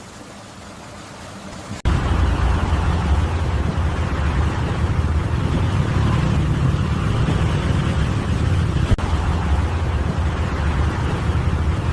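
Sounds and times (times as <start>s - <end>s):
heavy diesel engine running: 1.8s - 11.9s.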